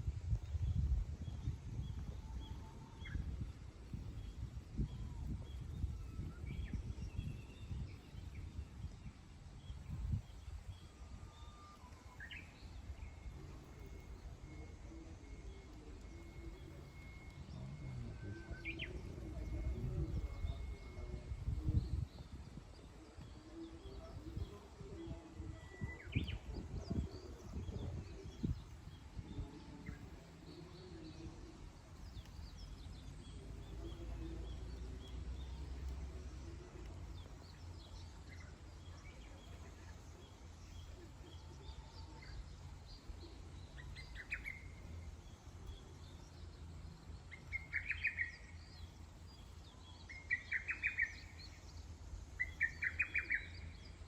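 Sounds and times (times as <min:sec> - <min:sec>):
low background rumble: 0:00.0 - 0:54.0
wild birds chirping: 0:00.1 - 0:54.0.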